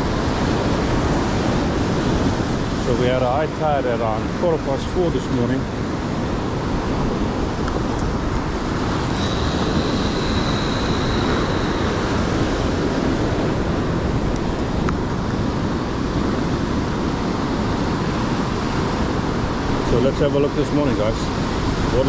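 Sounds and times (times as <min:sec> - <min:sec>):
sea surf breaking over rocks: 0:00.0 - 0:22.0
wind buffeting microphone: 0:00.0 - 0:22.0.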